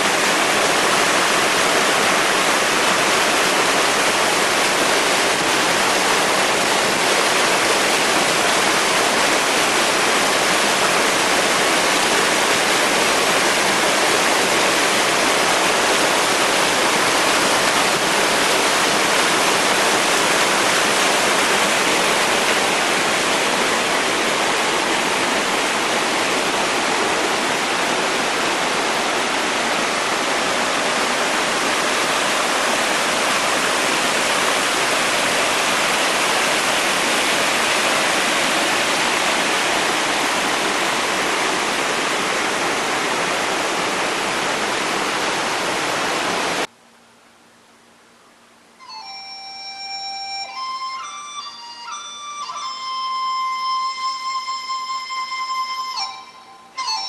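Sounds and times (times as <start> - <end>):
stream rushing over rocks: 0.0 - 46.7.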